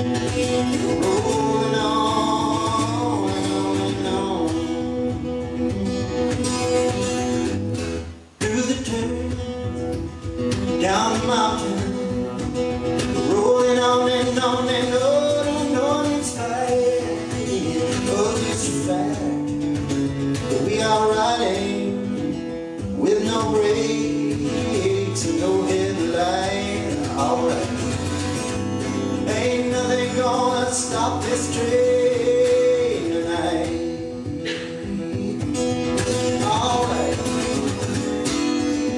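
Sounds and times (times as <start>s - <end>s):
acoustic guitar: 0.0s - 38.9s
man singing folk song: 0.0s - 38.9s.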